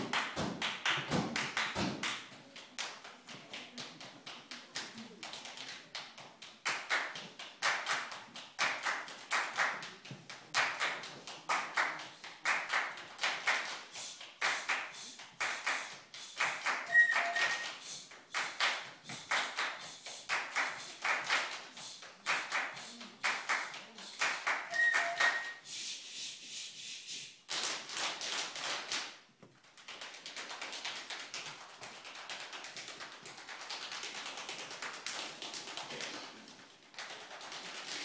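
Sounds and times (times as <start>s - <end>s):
group body percussion claps and taps: 0.0s - 25.6s, 27.3s - 38.0s.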